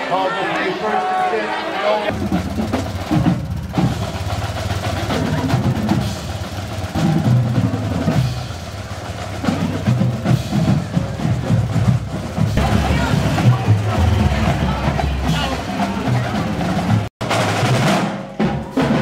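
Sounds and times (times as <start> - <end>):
snare and bass drum rolls: 2.1 - 19.0.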